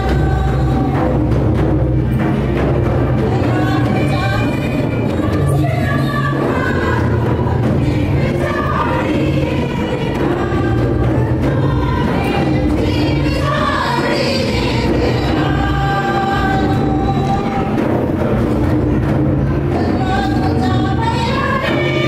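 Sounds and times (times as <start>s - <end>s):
women singing in unison: 0.0s - 1.5s, 3.1s - 18.2s, 19.5s - 22.0s.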